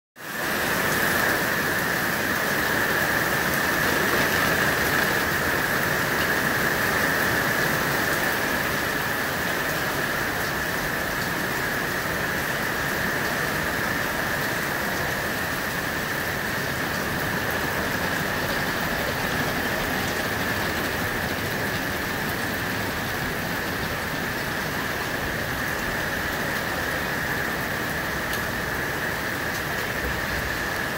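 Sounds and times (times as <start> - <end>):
rain on wet pavement: 0.2 - 30.9.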